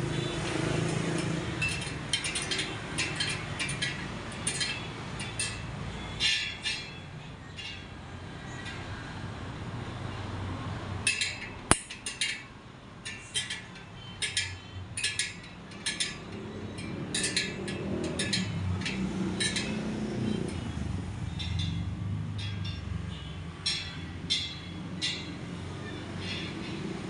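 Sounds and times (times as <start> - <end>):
tool clinking on wheel spokes: 0.1 - 27.0.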